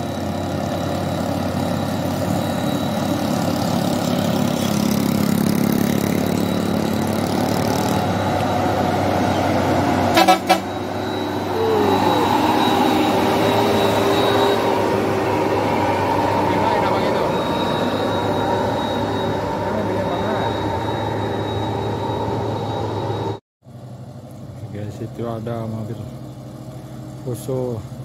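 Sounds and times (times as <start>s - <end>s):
steady tone: 0.0s - 23.4s
truck diesel engine: 0.0s - 28.0s.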